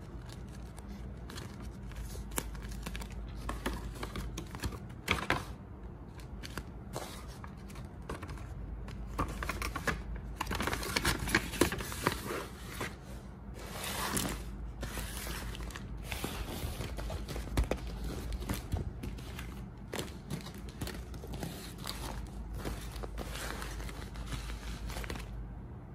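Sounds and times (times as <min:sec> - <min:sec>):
paper and tape crinkling: 0:00.0 - 0:25.4.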